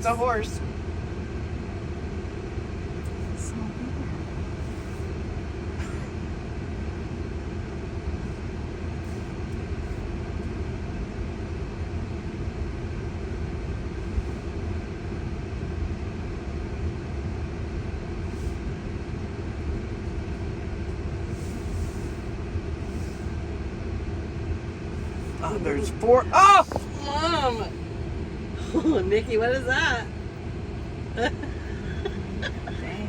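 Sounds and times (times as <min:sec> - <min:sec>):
road and tyre rumble in car: 0:00.0 - 0:33.0.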